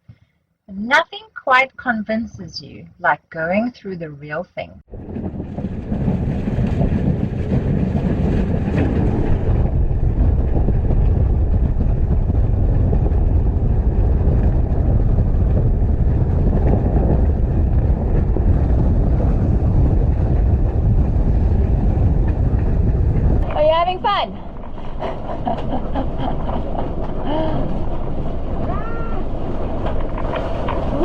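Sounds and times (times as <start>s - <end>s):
wind buffeting microphone: 4.8s - 31.0s.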